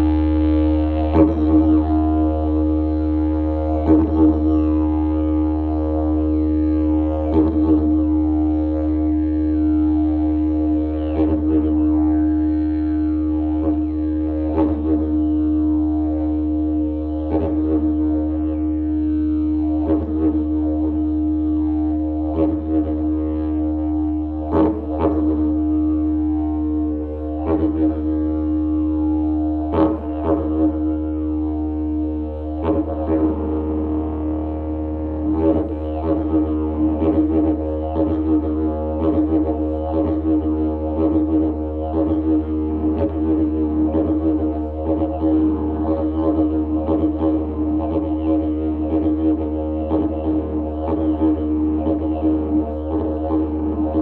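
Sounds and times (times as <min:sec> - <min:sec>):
didgeridoo drone: 0:00.0 - 0:54.0.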